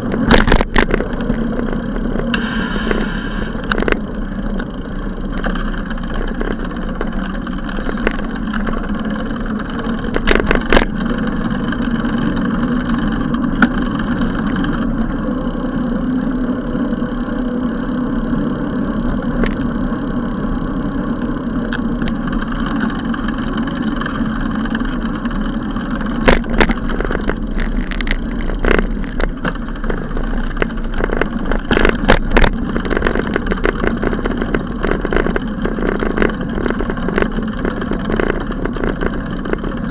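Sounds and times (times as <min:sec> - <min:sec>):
sharp knocks and rattles: 0:00.0 - 0:15.1, 0:21.7 - 0:39.9
bicycle road and wind noise: 0:00.0 - 0:39.9.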